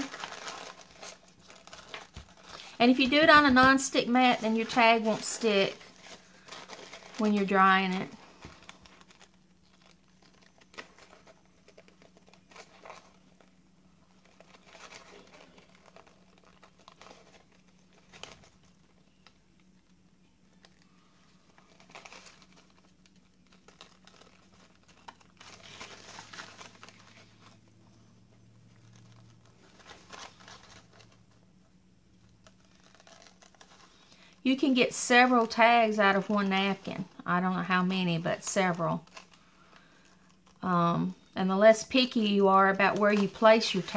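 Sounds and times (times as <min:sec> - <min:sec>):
tissue paper crinkling: 0:00.0 - 0:43.9.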